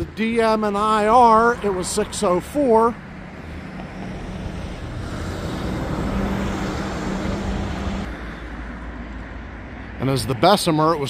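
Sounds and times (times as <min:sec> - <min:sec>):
car engine hum: 0:00.0 - 0:10.1
road and wind noise: 0:00.0 - 0:11.0.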